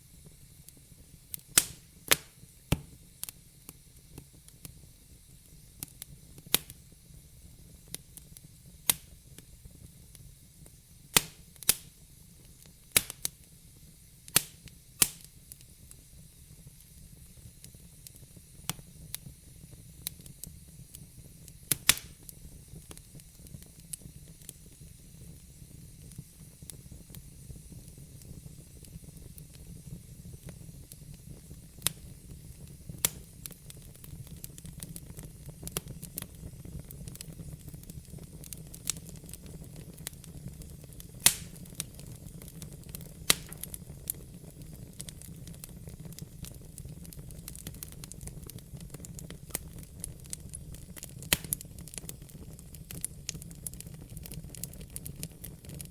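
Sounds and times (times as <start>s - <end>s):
fire crackling and popping: 0.0s - 55.9s
wood fire rumble and hiss: 0.0s - 55.9s.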